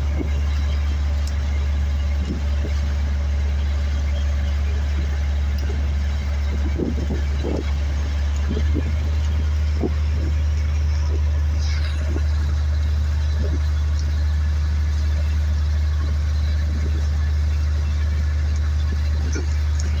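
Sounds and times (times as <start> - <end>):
boat engine droning: 0.0 - 20.0
water rushing past hull: 0.0 - 20.0.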